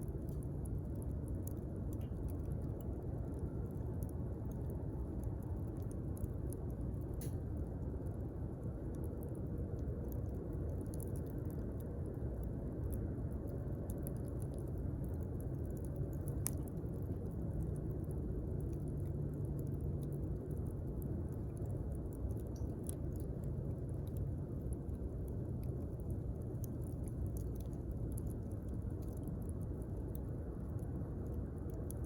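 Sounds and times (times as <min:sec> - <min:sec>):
campfire flames rushing: 0:00.0 - 0:32.0
fire crackles and pops: 0:00.0 - 0:32.0.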